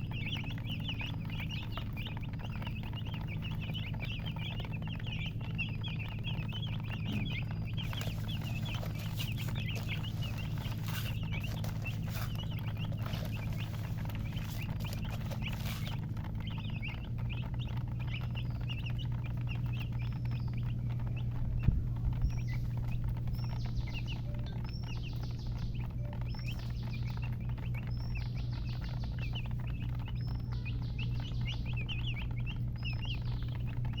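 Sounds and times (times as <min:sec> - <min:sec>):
baby chicks peeping: 0:00.0 - 0:34.0
low steady hum: 0:00.0 - 0:34.0.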